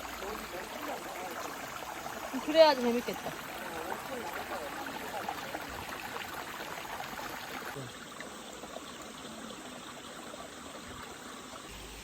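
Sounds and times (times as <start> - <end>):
stream water running over rocks: 0.0 - 12.0.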